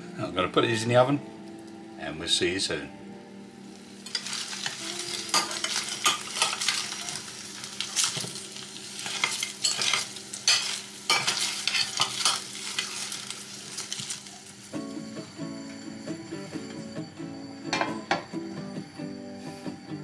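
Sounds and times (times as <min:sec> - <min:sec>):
oil sizzling: 0:00.6 - 0:20.0.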